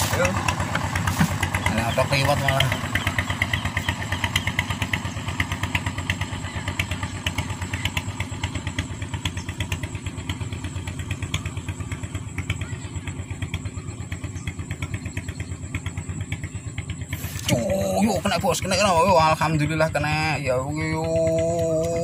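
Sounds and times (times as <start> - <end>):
engine running with pulsing beat: 0.0 - 22.0.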